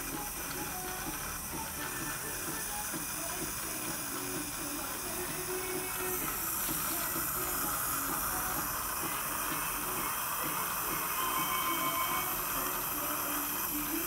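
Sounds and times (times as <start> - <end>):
saliva ejector hissing: 0.1 - 14.0.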